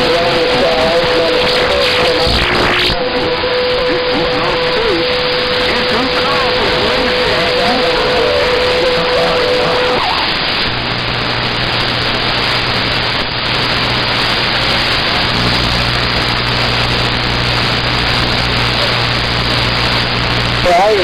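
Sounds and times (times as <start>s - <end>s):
low radio hum: 0.0s - 21.0s
radio receiver hiss: 0.0s - 21.0s.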